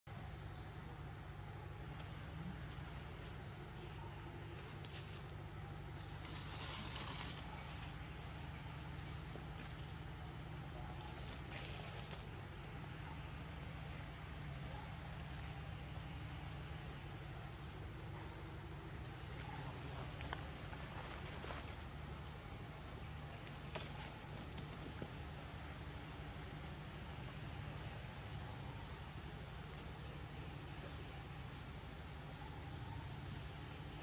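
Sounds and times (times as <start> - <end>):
insects droning: 0.1 - 34.0
low steady hum: 0.1 - 34.0.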